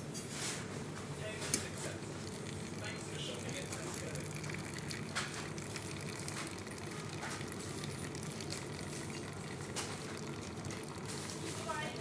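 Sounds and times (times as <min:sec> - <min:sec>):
coffee machine humming: 0:00.6 - 0:12.0.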